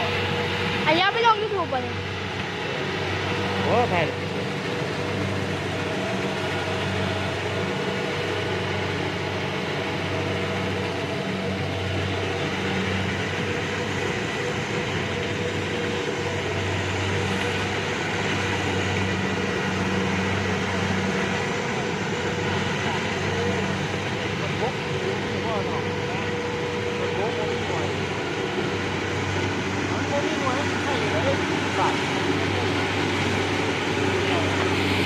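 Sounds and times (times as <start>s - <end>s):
harvester engine droning: 0.0s - 35.0s.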